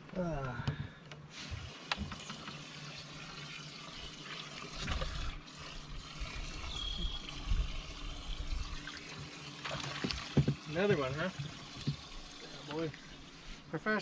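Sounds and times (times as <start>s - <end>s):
water trickling: 1.5s - 13.7s.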